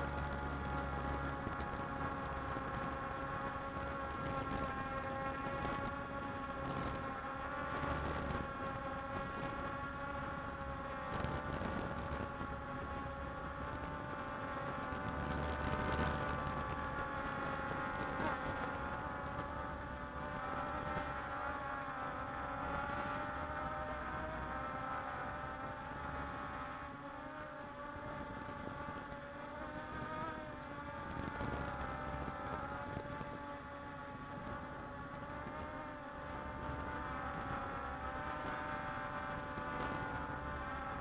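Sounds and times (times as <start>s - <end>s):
quadcopter propellers buzzing: 0.0s - 41.0s.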